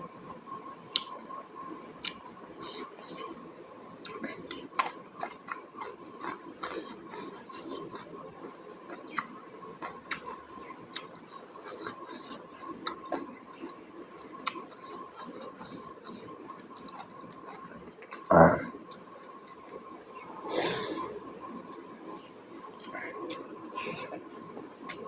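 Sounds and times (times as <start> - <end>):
chewing and lip smacking: 0.7 - 1.2, 2.0 - 3.4, 4.0 - 25.0.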